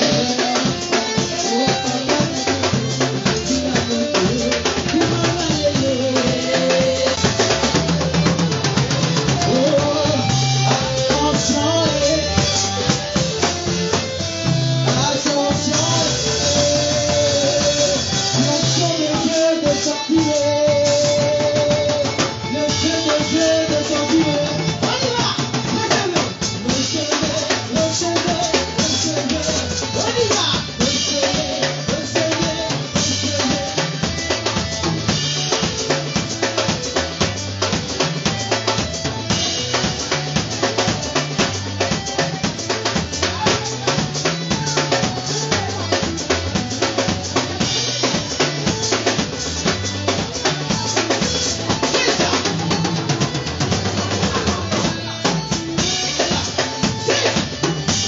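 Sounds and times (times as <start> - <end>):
drum kit beat: 0.0 - 58.0
keyboard: 0.0 - 58.0
live band playing upbeat music: 0.0 - 58.0.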